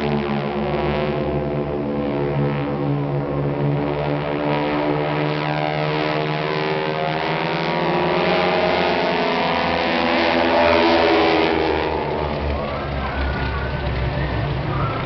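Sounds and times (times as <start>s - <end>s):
propeller aircraft droning overhead: 0.0s - 15.0s.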